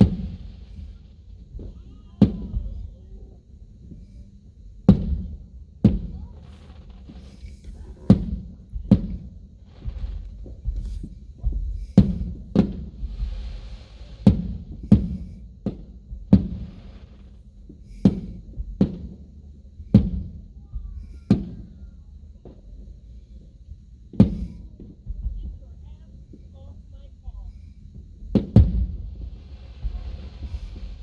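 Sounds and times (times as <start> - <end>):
firework shells booming: 0.0 - 26.6, 27.4 - 31.0
firework crackle hiss: 0.0 - 31.0.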